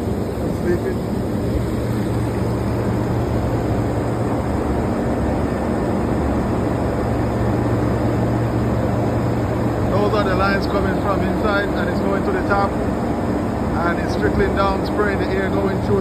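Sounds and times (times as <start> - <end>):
cooling tower fan drone: 0.0 - 16.0
rushing air and water: 0.0 - 16.0.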